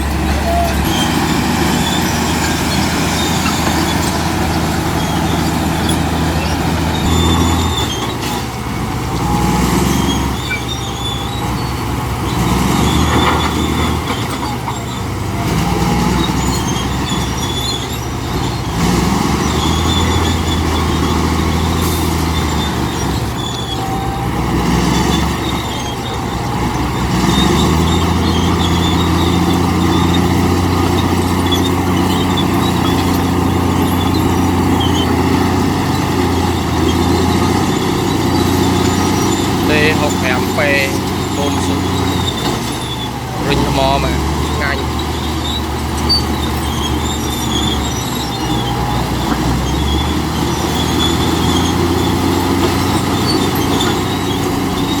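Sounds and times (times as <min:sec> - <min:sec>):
short high squeaks: 0:00.0 - 0:08.5, 0:09.2 - 0:15.1, 0:16.0 - 0:55.0
bulldozer diesel engine working: 0:00.0 - 0:55.0.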